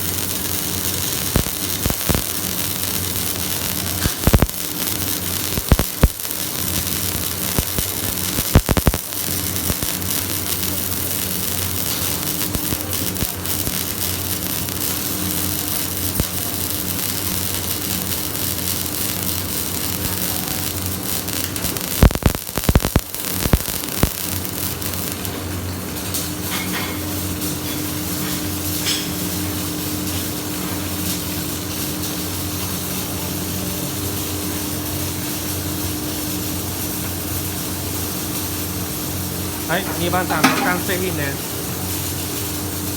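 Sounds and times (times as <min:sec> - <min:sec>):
arc welding hiss: 0:00.0 - 0:42.9.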